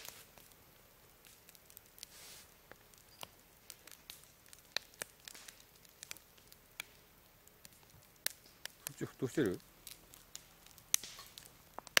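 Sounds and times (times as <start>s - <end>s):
low hiss: 0.0s - 12.0s
wood fire crackling: 0.0s - 12.0s.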